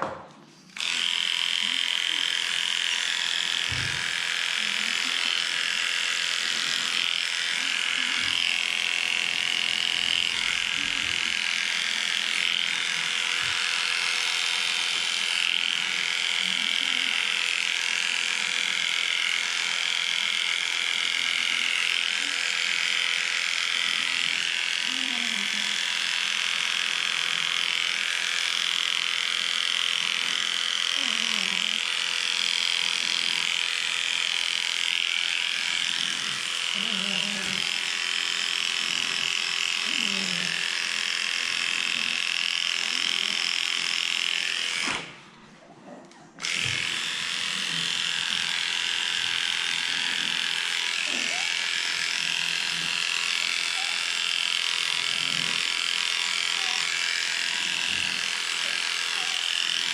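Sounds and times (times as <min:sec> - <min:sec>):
electric clippers whining: 0:00.0 - 0:45.4, 0:46.4 - 0:59.9.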